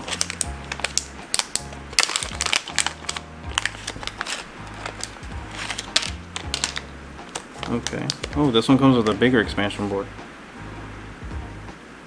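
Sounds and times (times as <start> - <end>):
packaging crinkling and rustling: 0.0 - 9.9
background music with bass line: 0.0 - 11.8.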